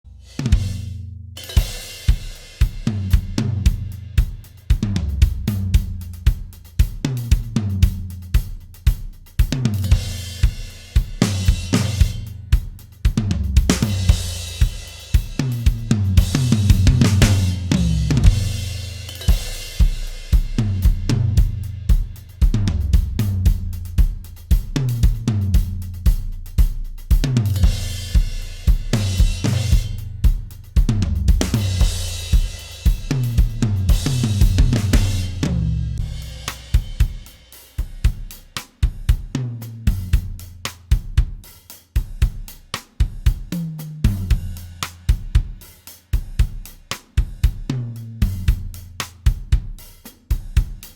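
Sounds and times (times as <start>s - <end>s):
drum kit playing a groove: 0.0s - 50.9s.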